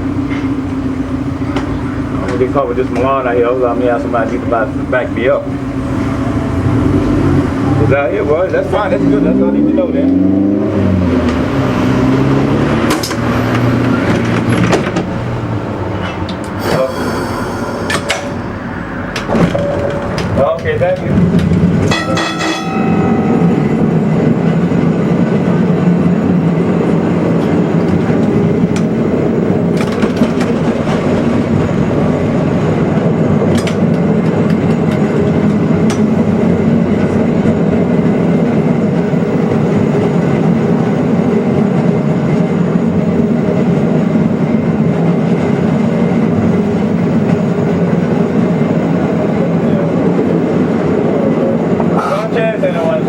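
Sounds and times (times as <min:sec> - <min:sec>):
streetcar wheels and motors rumbling: 0:00.0 - 0:53.0.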